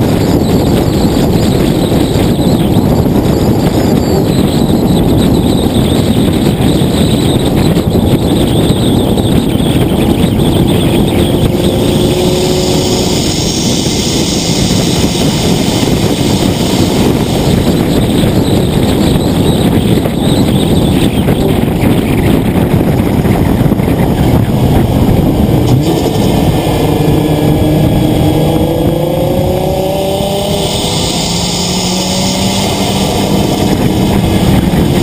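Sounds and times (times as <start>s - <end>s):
car engine: 0.0s - 35.0s
wind and road noise: 0.0s - 35.0s.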